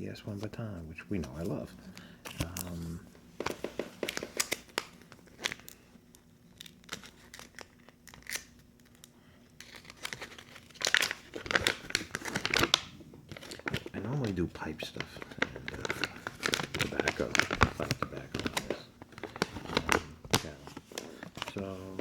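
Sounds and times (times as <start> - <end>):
packaging crinkling and rustling: 1.2 - 5.8, 6.5 - 22.0.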